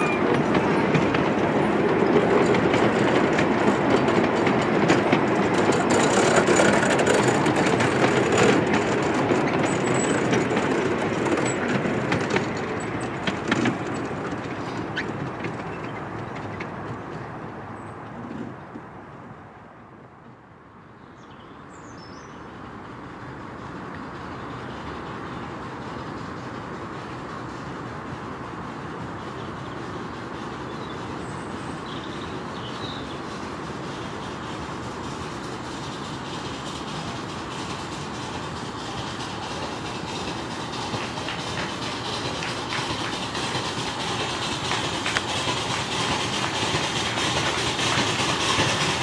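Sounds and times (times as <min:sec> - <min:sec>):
wheels clicking over rail joints: 0:00.0 - 0:20.4, 0:21.2 - 0:49.0
train wheels rumbling on track: 0:00.0 - 0:49.0.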